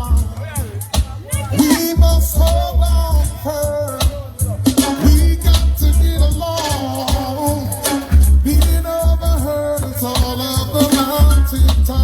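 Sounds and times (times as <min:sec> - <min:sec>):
reggae music with heavy bass: 0:00.0 - 0:12.0.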